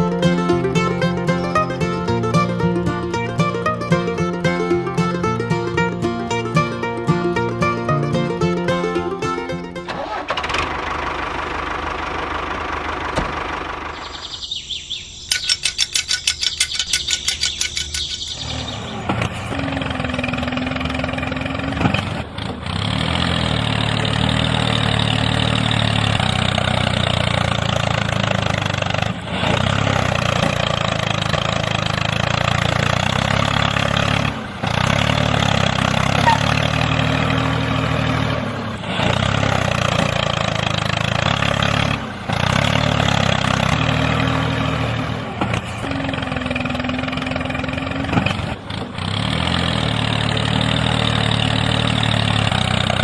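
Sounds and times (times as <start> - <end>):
engine cranking and running: 0.0 - 14.6, 15.2 - 53.0.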